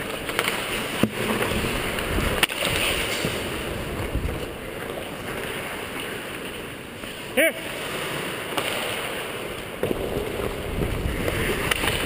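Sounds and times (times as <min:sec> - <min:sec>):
skates scraping on ice: 0:00.0 - 0:12.0.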